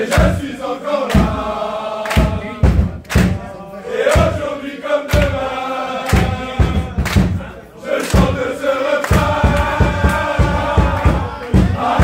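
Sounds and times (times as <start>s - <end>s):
group chanting in unison: 0.0s - 12.0s
rhythmic claps and thumps: 0.0s - 12.0s.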